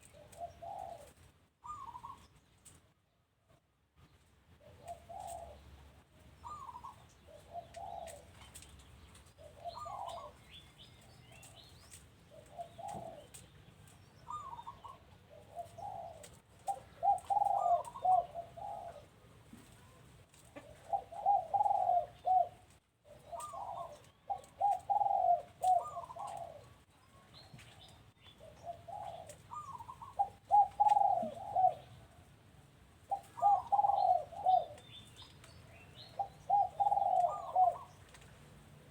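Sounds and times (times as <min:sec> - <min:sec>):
doves cooing: 0:00.0 - 0:02.3, 0:04.6 - 0:05.8, 0:06.4 - 0:11.7, 0:12.3 - 0:13.4, 0:14.0 - 0:26.8, 0:27.4 - 0:32.2, 0:33.0 - 0:38.4
small birds chirping: 0:00.0 - 0:02.8, 0:04.1 - 0:19.8, 0:20.5 - 0:32.0, 0:33.0 - 0:38.9.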